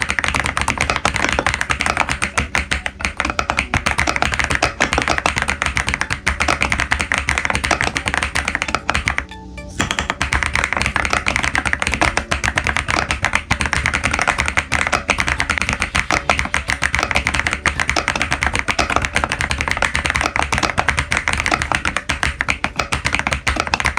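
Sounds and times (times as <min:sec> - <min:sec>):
mechanical keyboard typing: 0:00.0 - 0:23.9.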